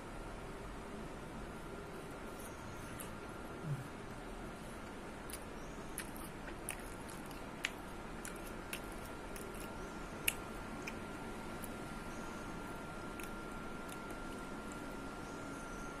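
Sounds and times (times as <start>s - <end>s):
biting and chewing ice cream: 1.8s - 16.0s.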